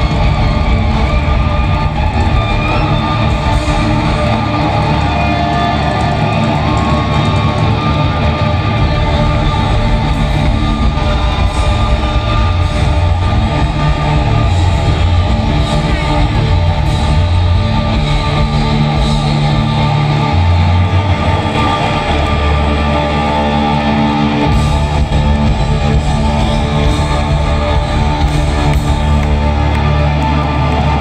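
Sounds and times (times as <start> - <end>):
hard rock band playing: 0.0 - 31.0.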